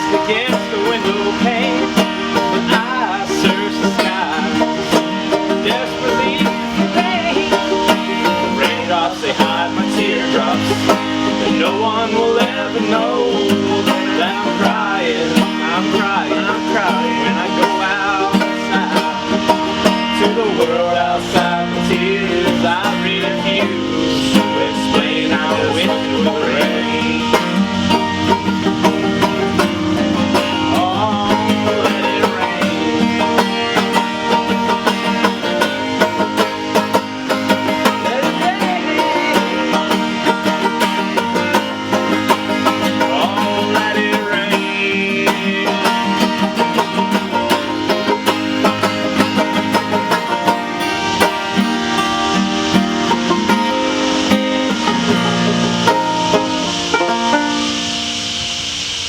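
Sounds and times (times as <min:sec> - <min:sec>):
acoustic guitar: 0:00.0 - 0:59.0
banjo playing: 0:00.0 - 0:59.0.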